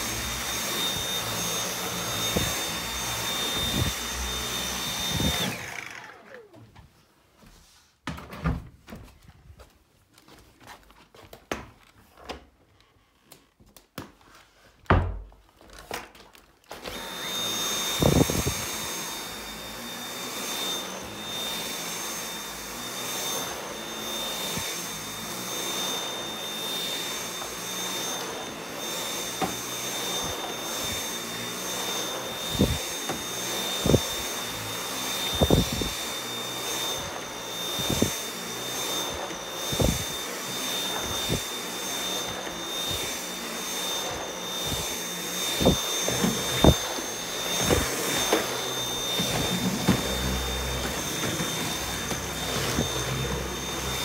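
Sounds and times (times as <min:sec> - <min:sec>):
vacuum cleaner motor whine: 0:00.0 - 0:07.0, 0:16.6 - 0:54.0.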